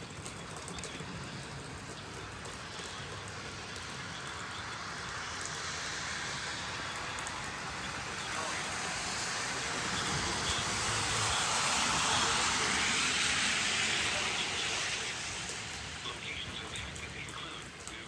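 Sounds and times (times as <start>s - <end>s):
heavy rain: 0.0s - 18.0s
wind: 0.0s - 18.0s.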